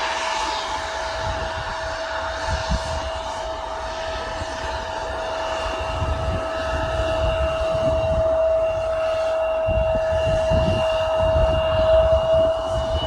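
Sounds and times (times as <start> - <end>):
airplane engine whine: 0.0 - 13.0.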